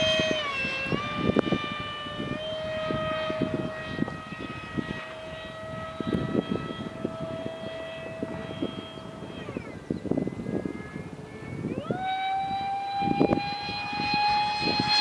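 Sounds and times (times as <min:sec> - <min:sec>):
ducted-fan jet whine: 0:00.0 - 0:15.0.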